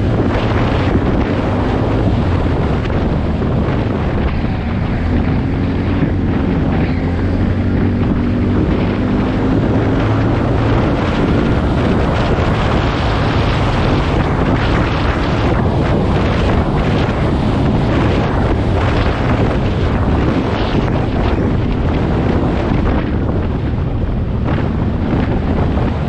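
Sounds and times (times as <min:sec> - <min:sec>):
atv engine running: 0:00.0 - 0:26.0
wind buffeting microphone: 0:00.0 - 0:26.0.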